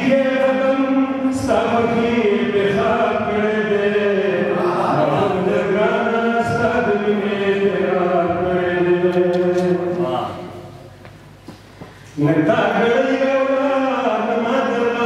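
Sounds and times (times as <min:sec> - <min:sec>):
man chanting poetry: 0:00.0 - 0:10.7, 0:12.2 - 0:15.0.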